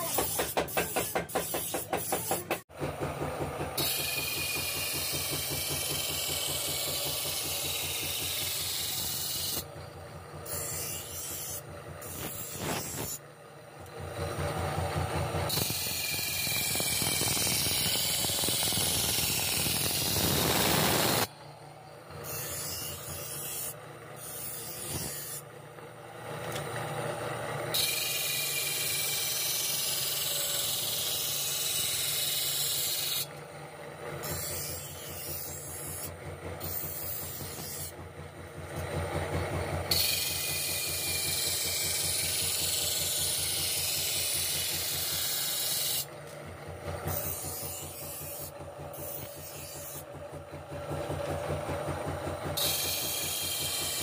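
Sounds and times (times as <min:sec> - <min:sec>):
blade rasping on grinding wheel: 0:00.0 - 0:02.6, 0:03.8 - 0:13.3, 0:14.2 - 0:26.0, 0:27.6 - 0:33.4, 0:34.2 - 0:51.7, 0:52.4 - 0:54.0
grinding wheel running: 0:00.0 - 0:54.0.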